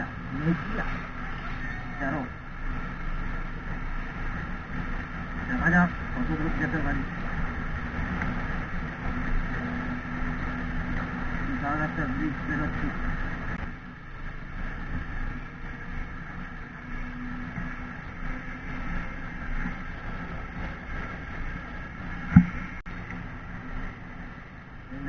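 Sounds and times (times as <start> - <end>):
motorcycle engine humming: 0.0 - 25.0
road rumble: 0.0 - 25.0.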